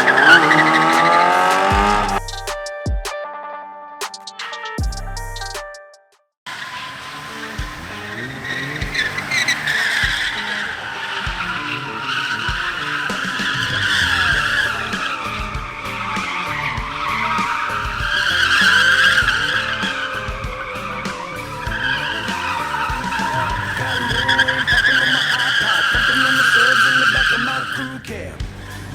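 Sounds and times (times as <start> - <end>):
tyres squealing: 0.0 - 2.3, 6.5 - 28.9
car engine revving: 0.0 - 2.6, 6.5 - 28.9.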